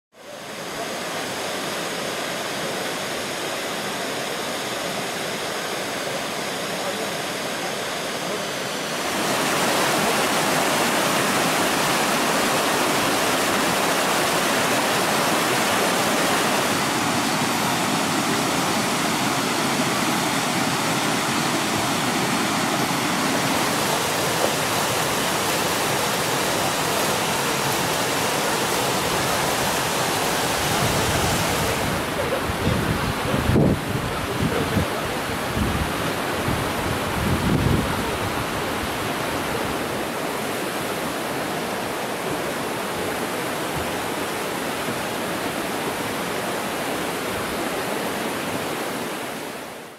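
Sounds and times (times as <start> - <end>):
water rushing over rocks: 0.2 - 49.9.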